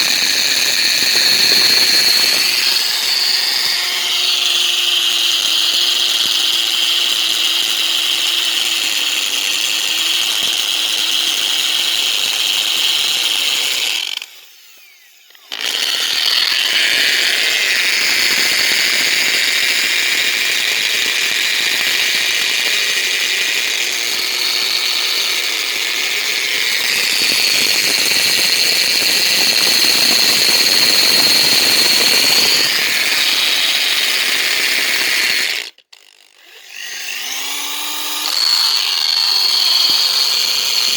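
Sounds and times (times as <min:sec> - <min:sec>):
electric drill whining: 0:00.0 - 0:40.9.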